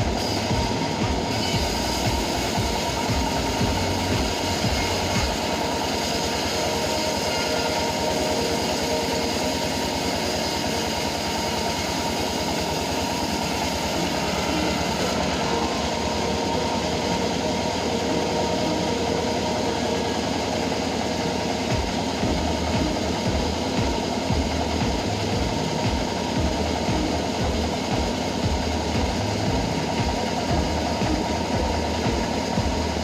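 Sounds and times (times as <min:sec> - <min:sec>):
band sawmill drone: 0:00.0 - 0:33.0.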